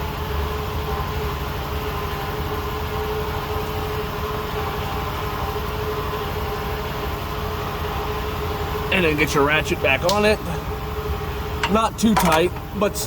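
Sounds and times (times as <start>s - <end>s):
faint constant whine: 0.0s - 13.0s
steady mechanical hum: 0.0s - 13.0s.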